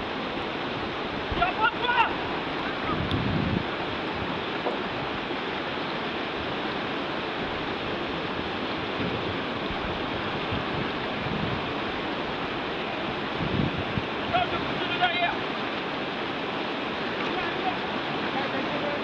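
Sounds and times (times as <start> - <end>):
whitewater river rushing: 0.0 - 19.0.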